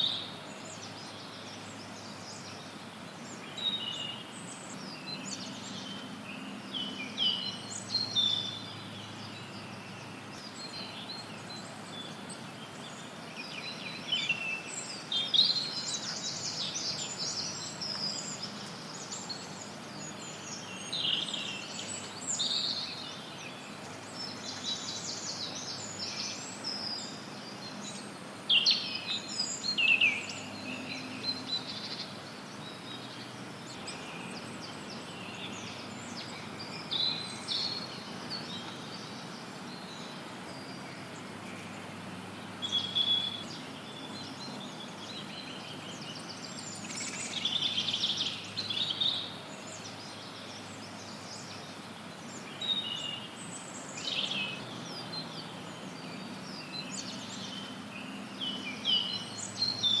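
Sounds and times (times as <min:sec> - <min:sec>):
songbirds calling and trilling: 0:00.0 - 1:00.0
white noise hiss: 0:00.0 - 1:00.0.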